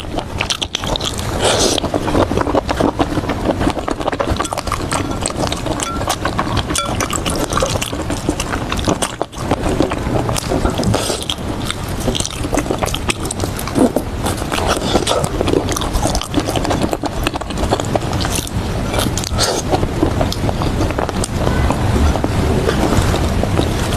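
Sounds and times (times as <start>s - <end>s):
wet chewing and mouth sounds: 0.0s - 23.9s.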